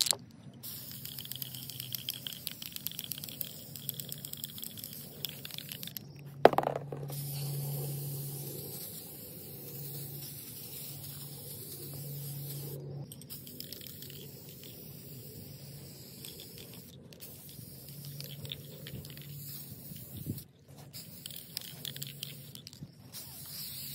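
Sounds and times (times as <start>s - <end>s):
spray paint can hissing: 0.0s - 23.9s.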